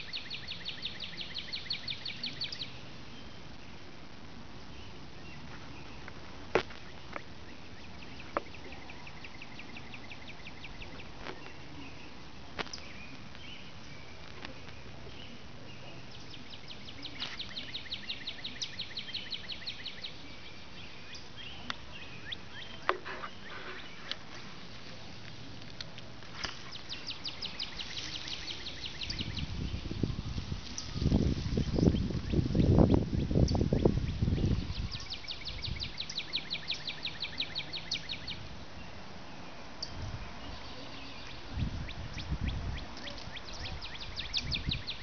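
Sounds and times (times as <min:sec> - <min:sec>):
songbird trilling: 0:00.0 - 0:03.4, 0:06.8 - 0:24.2, 0:26.4 - 0:38.5, 0:39.8 - 0:45.0
faint background hiss: 0:00.0 - 0:45.0.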